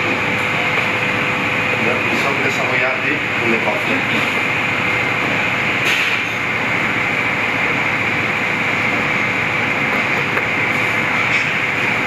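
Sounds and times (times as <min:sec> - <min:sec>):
ventilation system hissing: 0:00.0 - 0:12.0.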